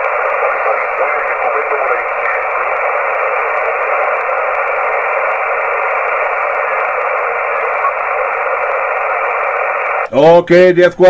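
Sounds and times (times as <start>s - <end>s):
radio static hiss: 0.0s - 10.1s.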